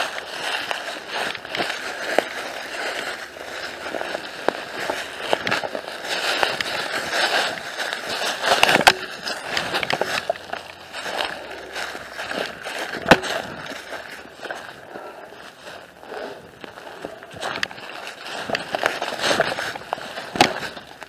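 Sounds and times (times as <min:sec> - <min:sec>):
footsteps crunching through dry leaves: 0:00.0 - 0:21.0.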